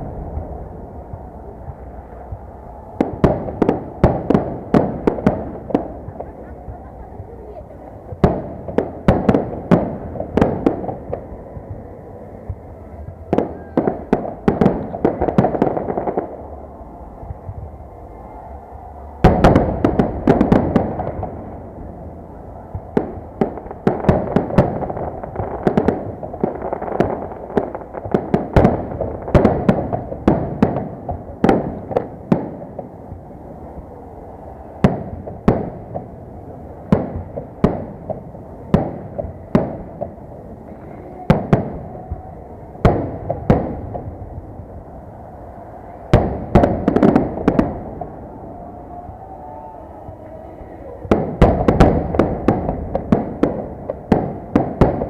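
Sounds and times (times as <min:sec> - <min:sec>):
fireworks bursting with bangs: 0:00.0 - 0:16.5, 0:19.2 - 0:55.0
steady background hum: 0:00.0 - 0:55.0.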